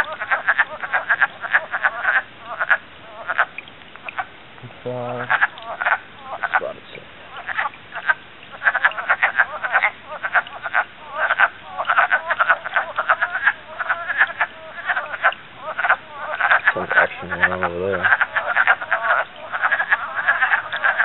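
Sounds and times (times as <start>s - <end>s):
frogs calling in chorus: 0.0s - 21.0s.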